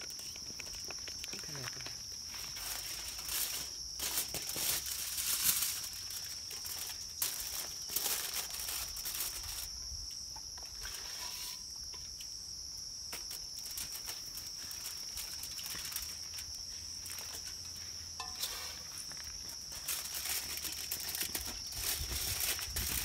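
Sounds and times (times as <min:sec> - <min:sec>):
aluminium foil crinkling: 0:00.0 - 0:09.8, 0:13.1 - 0:23.0
insects buzzing: 0:00.0 - 0:23.0.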